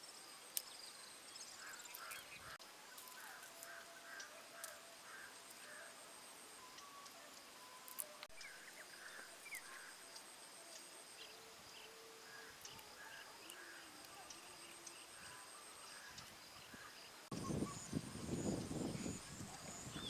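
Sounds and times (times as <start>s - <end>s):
insect drone: 0.0s - 20.0s
bird chirps: 0.6s - 20.0s.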